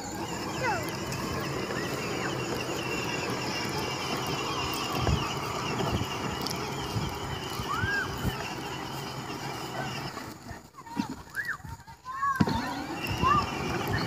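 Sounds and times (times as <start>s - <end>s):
toy electric motor whirring: 0.0s - 11.5s, 12.2s - 14.0s.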